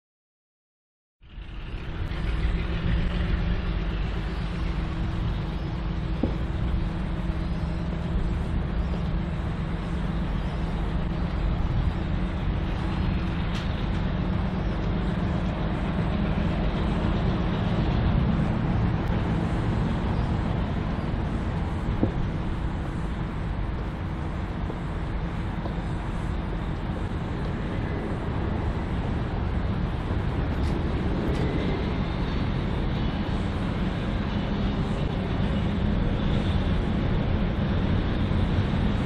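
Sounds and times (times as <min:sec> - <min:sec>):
diesel locomotive engine rumbling: 0:01.2 - 0:39.0.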